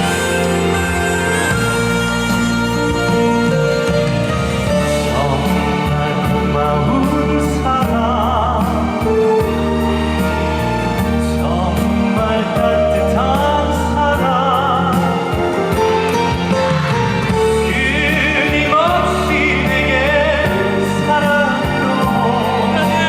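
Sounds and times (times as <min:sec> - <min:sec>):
person singing with vibrato: 0:00.0 - 0:09.7, 0:11.0 - 0:16.0, 0:17.4 - 0:23.0
instrumental backing track: 0:00.0 - 0:23.0.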